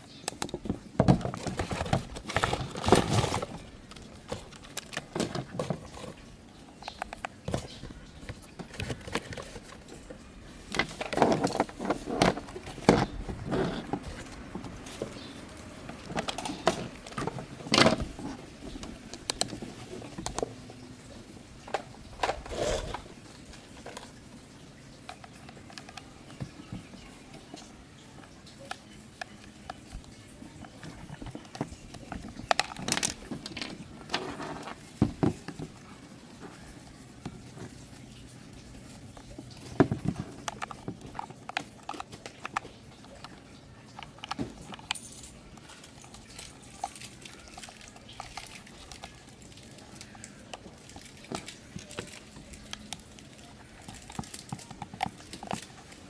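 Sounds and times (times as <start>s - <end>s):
objects clicking and rattling: 0.0s - 56.0s.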